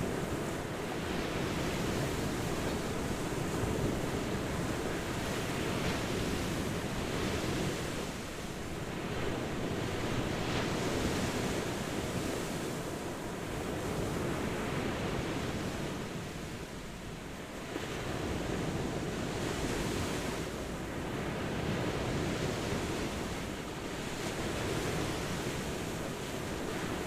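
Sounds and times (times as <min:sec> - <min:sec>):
ocean waves washing on shore: 0:00.0 - 0:27.0.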